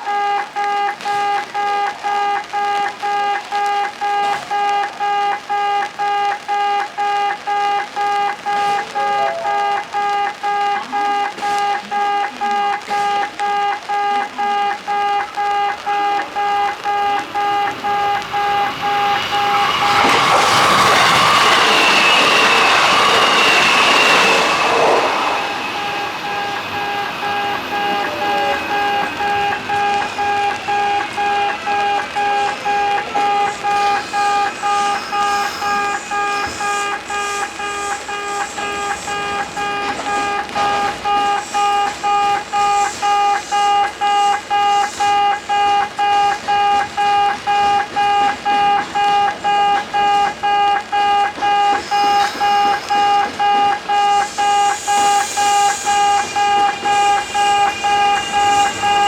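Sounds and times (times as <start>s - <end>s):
falling whine: 0.0s - 59.0s
level-crossing electronic beeping: 0.0s - 59.0s
train running past: 0.0s - 59.0s.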